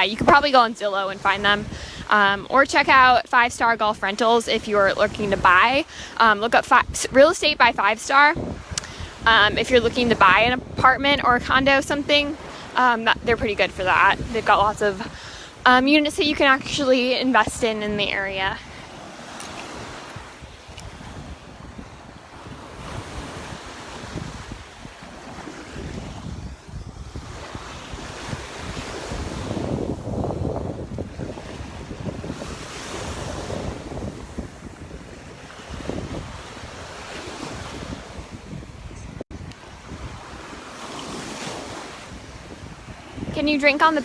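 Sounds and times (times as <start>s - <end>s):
surf washing onto beach: 0.0s - 44.0s
wind buffeting microphone: 0.0s - 44.0s.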